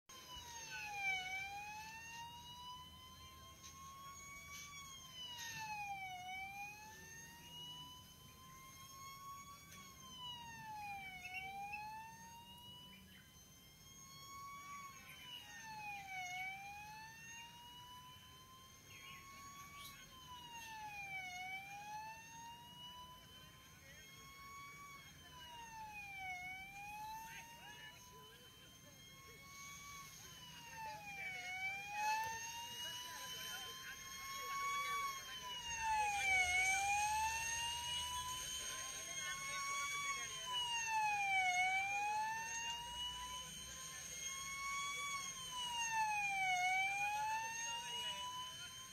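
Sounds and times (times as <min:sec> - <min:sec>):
fire engine siren wailing: 0:00.0 - 0:48.9.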